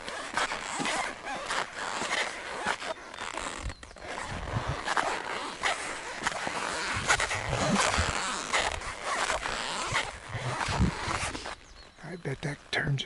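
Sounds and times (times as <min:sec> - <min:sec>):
boot footsteps on mud: 0:00.0 - 0:12.0
boots squeaking: 0:00.0 - 0:12.6.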